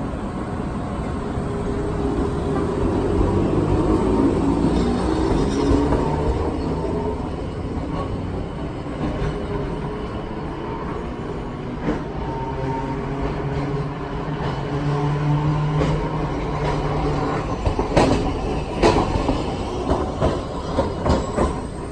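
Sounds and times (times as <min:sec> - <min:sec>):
streetcar motor hum: 0:00.0 - 0:21.9
steel wheels on rails: 0:02.3 - 0:21.9.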